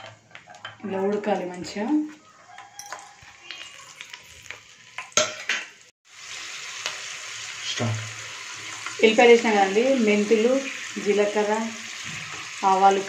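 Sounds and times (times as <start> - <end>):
garlic sizzling in hot oil: 0.0 - 13.0
oil crackling: 0.0 - 13.0.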